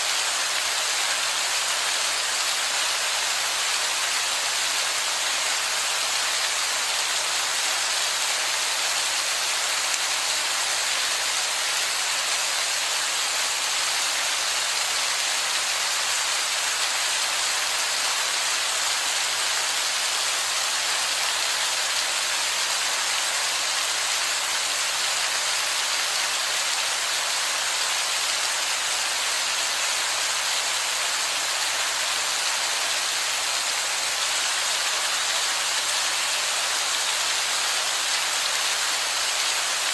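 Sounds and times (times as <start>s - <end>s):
heavy rain on rock: 0.0s - 39.9s.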